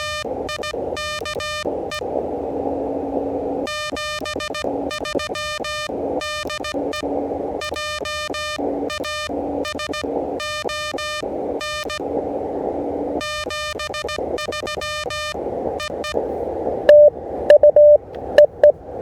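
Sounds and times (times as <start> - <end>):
morse code tone: 0.0 - 2.0, 3.6 - 12.0, 13.2 - 16.2, 16.9 - 18.7
radio band hiss: 0.0 - 17.2.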